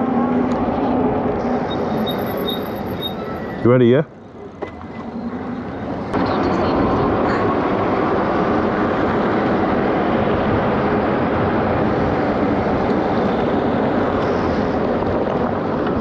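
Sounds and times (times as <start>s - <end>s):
tyre noise on road: 0.0s - 6.2s, 7.0s - 16.0s.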